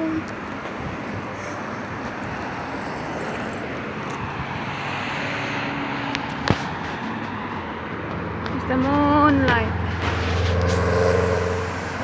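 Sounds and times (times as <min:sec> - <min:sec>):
engine and traffic hum: 0:00.0 - 0:12.0.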